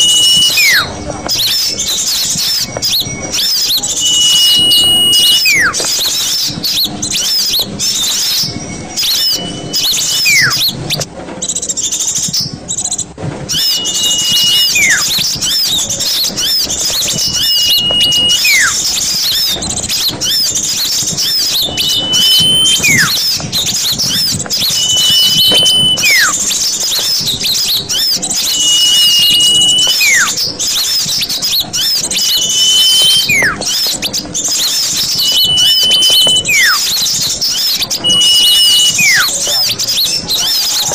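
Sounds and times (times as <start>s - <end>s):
bird whistle call: 0.0s - 11.1s, 13.5s - 40.9s
small birds chattering: 0.0s - 40.9s.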